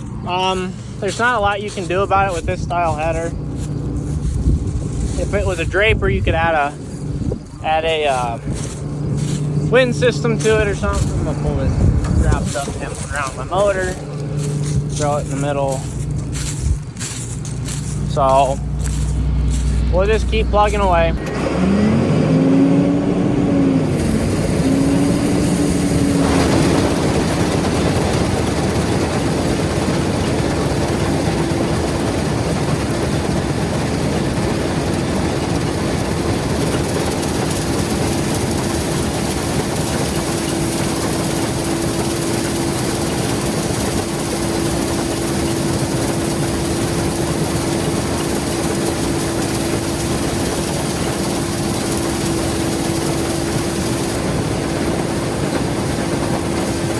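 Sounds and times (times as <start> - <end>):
combine harvester running: 0.0 - 56.9
machinery whine: 0.0 - 56.9.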